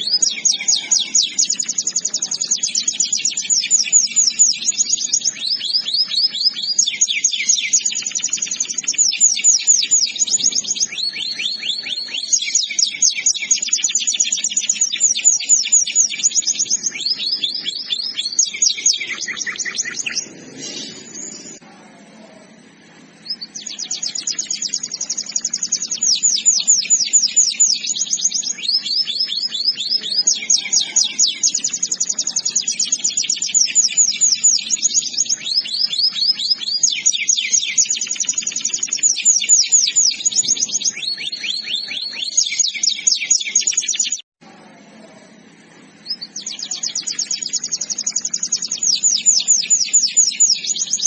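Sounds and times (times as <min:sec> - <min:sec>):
canary singing trills: 0:00.0 - 0:44.3, 0:45.3 - 0:51.0.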